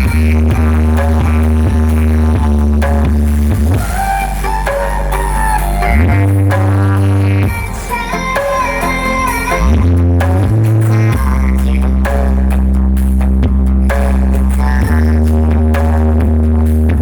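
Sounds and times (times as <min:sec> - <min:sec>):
deep sliding bass notes: 0:00.0 - 0:17.0
electronic dance music: 0:00.0 - 0:17.0.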